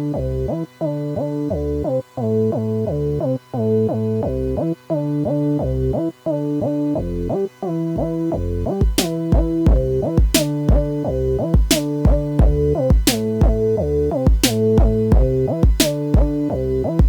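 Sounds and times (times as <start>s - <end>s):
synthesizer sequenced phrase: 0.0s - 17.0s.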